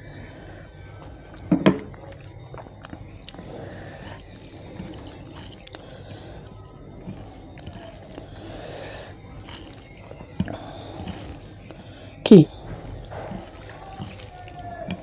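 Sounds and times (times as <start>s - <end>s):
rice squishing by hand: 0.0s - 15.0s.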